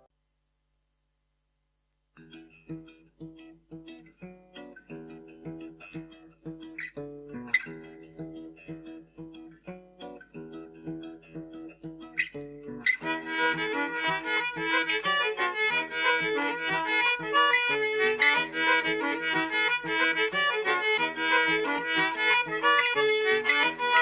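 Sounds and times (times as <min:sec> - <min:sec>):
acoustic guitar chords: 0:02.2 - 0:24.0.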